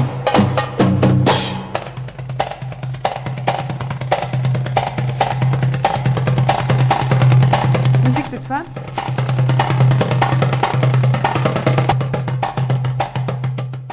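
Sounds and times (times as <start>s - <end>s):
fast percussion rhythm: 0.0s - 13.9s
belly-dance music: 1.7s - 13.2s.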